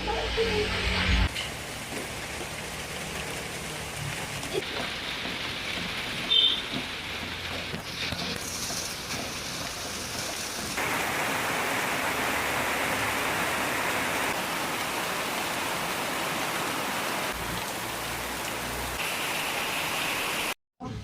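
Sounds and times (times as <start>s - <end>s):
heavy rain falling: 1.2s - 20.6s.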